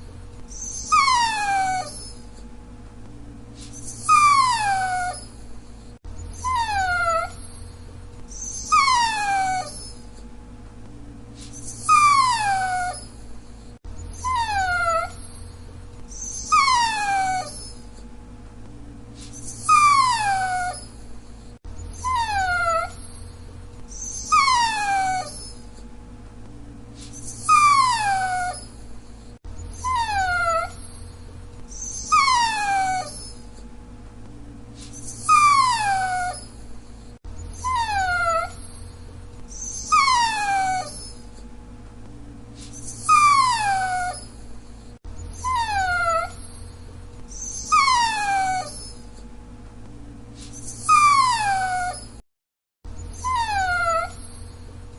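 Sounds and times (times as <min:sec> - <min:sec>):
dog whining: 0:00.0 - 0:02.5, 0:03.6 - 0:10.3, 0:11.4 - 0:18.1, 0:19.2 - 0:25.9, 0:27.0 - 0:33.7, 0:34.8 - 0:41.5, 0:42.6 - 0:49.3, 0:50.4 - 0:52.2, 0:52.9 - 0:54.9
faint steady hum: 0:00.0 - 0:52.2.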